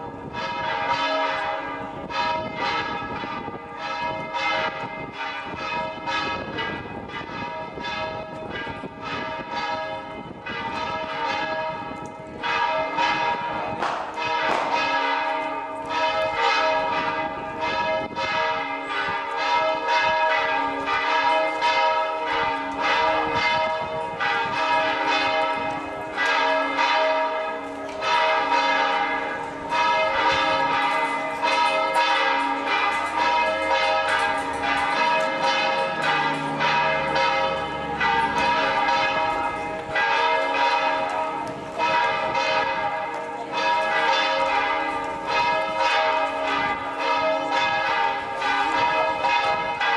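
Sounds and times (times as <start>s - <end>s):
church bells pealing: 0.0s - 49.9s.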